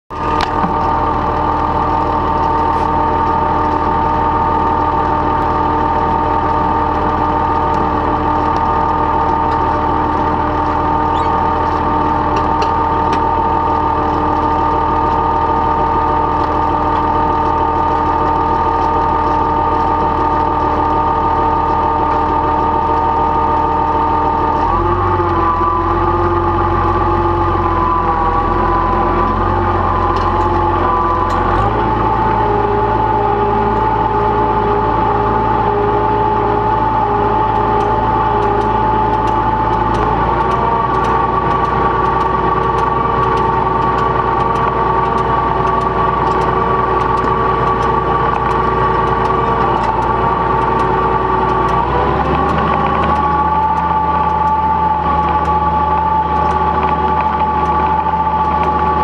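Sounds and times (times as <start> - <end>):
tractor engine idling: 0.1 - 59.0.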